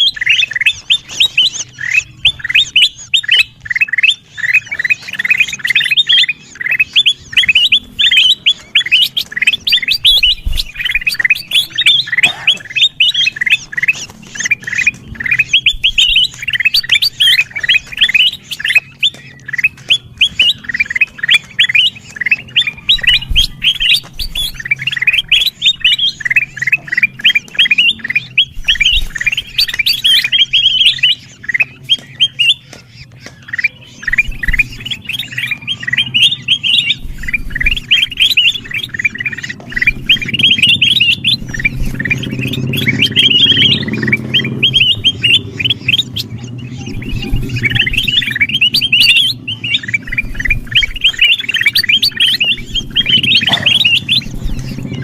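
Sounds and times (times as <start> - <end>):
birds chirping noisily: 0.0 - 55.0.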